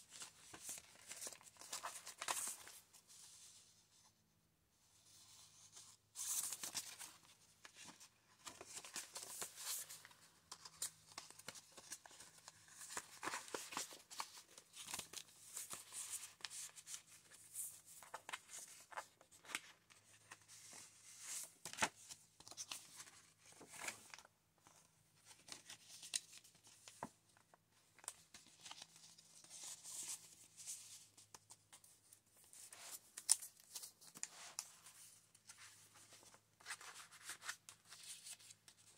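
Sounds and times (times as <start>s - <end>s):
paper pages rustling and flicking: 0.1s - 2.8s, 6.2s - 27.1s, 28.0s - 38.9s.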